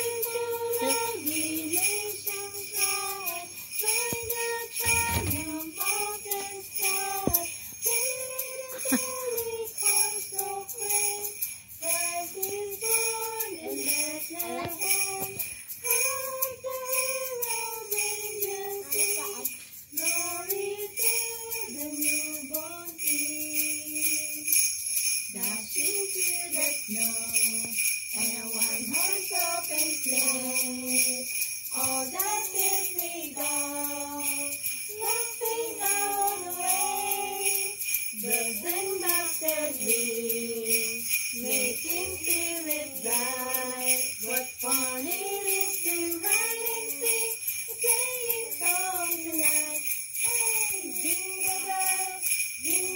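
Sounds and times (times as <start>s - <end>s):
carolers singing: 0.0s - 19.4s, 20.0s - 24.6s, 25.4s - 52.9s
jingle stick shaken: 0.0s - 52.9s.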